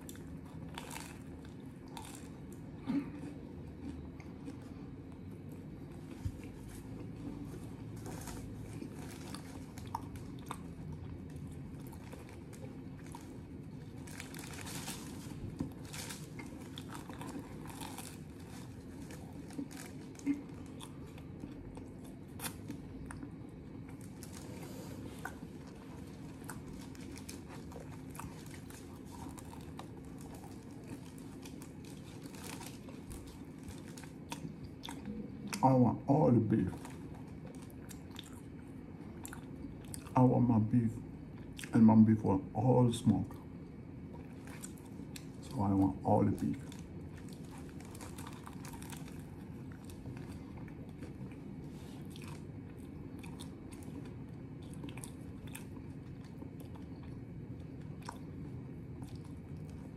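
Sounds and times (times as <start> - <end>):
person chewing and crunching: 0.0 - 40.2, 41.3 - 41.7, 43.2 - 59.9
steady low hum: 0.0 - 59.9.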